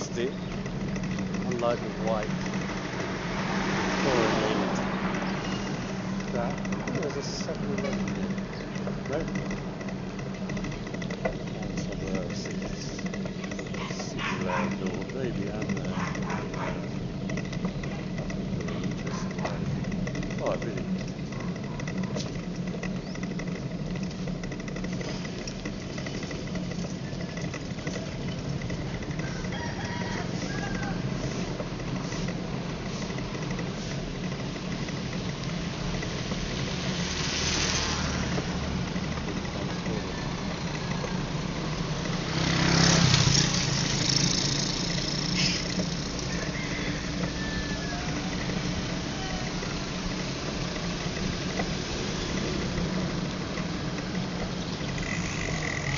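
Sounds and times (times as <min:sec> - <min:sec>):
road traffic hum: 0:00.0 - 0:55.9
vehicles passing: 0:00.0 - 0:55.9.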